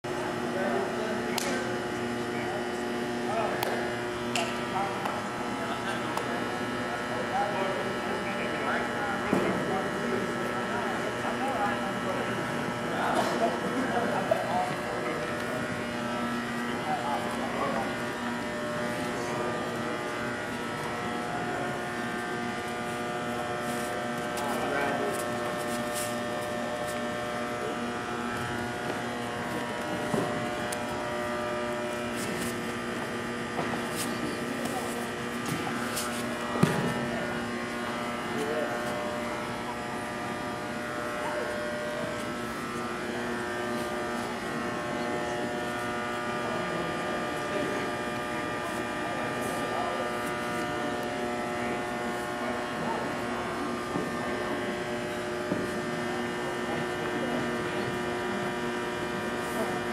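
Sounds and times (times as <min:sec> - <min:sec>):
hum of held tones: 0:00.0 - 0:59.9.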